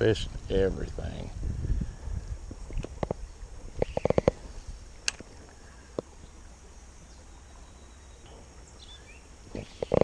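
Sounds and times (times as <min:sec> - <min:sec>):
faint steady high hiss: 0:00.0 - 0:10.0.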